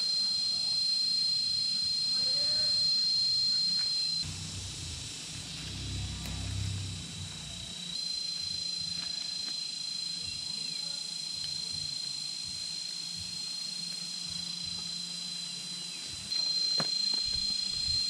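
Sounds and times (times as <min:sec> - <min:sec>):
faint low hum: 0:00.0 - 0:18.0
insects trilling: 0:00.0 - 0:18.0.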